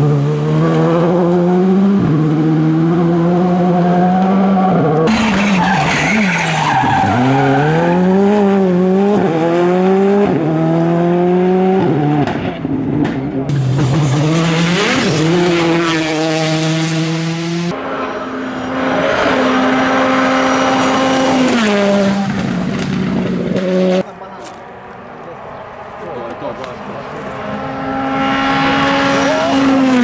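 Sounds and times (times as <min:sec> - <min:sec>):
rally car engines at full throttle: 0:00.0 - 0:30.0.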